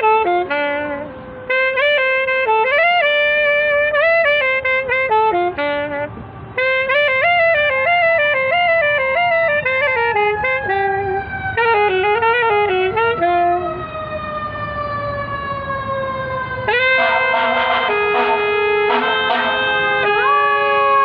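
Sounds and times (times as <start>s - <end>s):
wind instrument playing notes: 0.0s - 14.0s, 16.7s - 21.0s
fire truck siren wailing: 0.0s - 21.0s.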